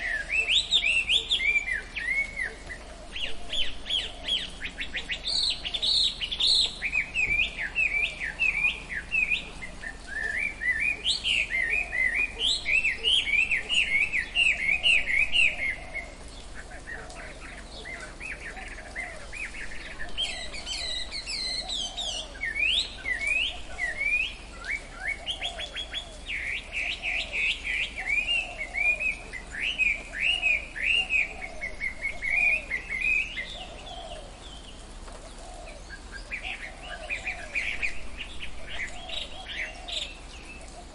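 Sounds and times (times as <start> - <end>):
birds chirping rapidly: 0.0 - 40.9
low repeating bird call: 0.0 - 40.9.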